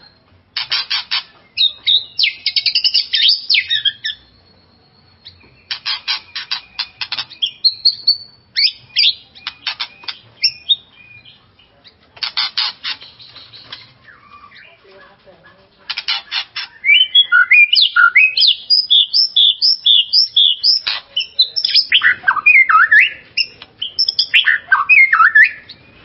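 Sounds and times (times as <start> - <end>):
bird chattering and whistling: 0.0 - 14.9, 15.9 - 26.0.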